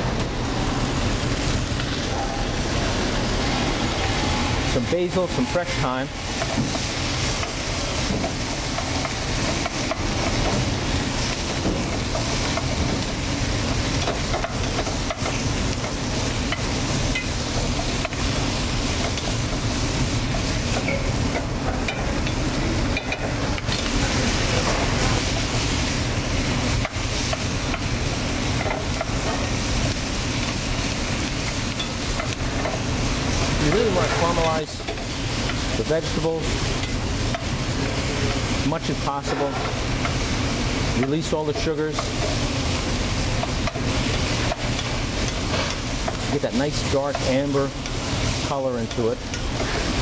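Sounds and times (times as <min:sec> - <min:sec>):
food sizzling in a pot: 0:00.0 - 0:50.0.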